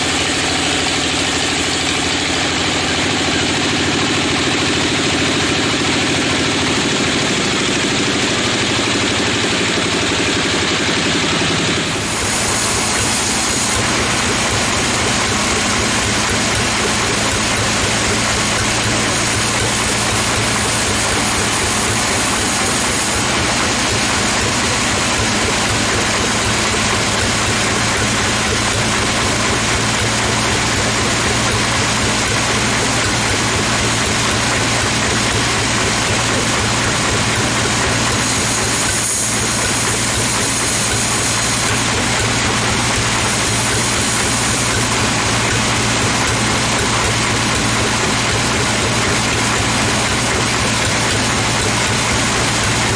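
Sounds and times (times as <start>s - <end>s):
sawmill machinery droning: 0.0s - 52.9s.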